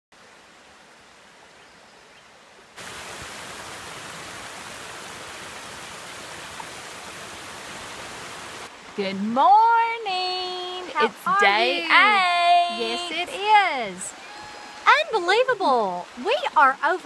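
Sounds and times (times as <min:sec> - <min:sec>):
rushing river water: 0:00.1 - 0:17.0.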